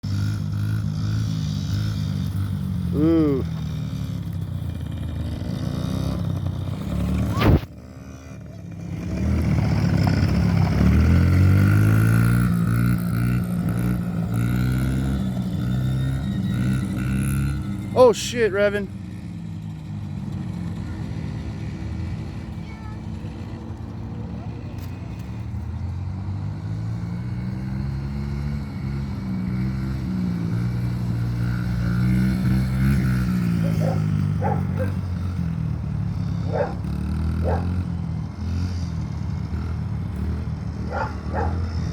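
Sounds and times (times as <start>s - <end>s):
dirt bike engine revving: 0.0s - 24.5s, 25.2s - 41.9s.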